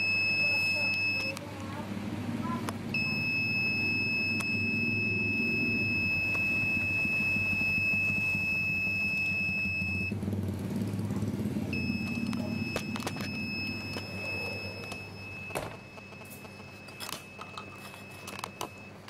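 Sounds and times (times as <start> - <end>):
piezo buzzer high-pitched tone: 0.0 - 1.4, 3.0 - 10.1, 11.8 - 19.0
low steady rumble: 0.0 - 16.1.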